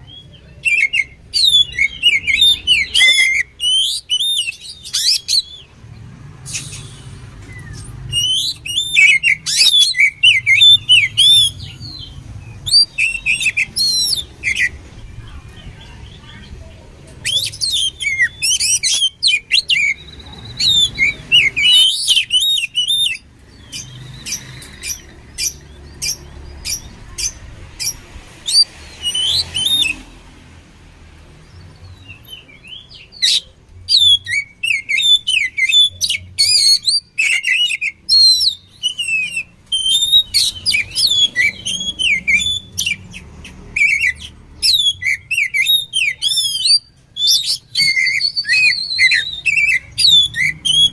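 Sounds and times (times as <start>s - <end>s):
magpie-robin singing: 0.0s - 30.2s, 31.3s - 50.9s.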